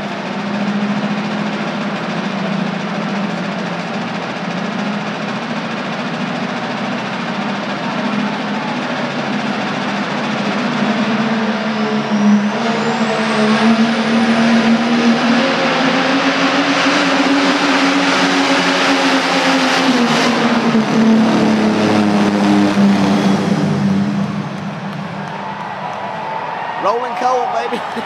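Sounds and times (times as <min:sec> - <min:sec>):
diesel truck engine at full throttle: 0:00.0 - 0:28.0.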